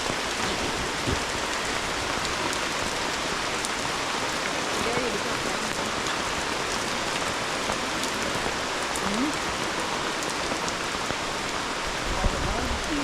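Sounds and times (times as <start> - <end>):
raindrop ticks: 0.0 - 13.0
steady rain hiss: 0.0 - 13.0.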